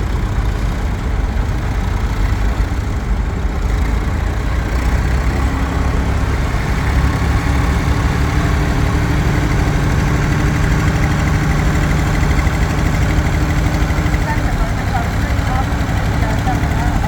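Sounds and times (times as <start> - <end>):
tractor engines droning: 0.0 - 17.0.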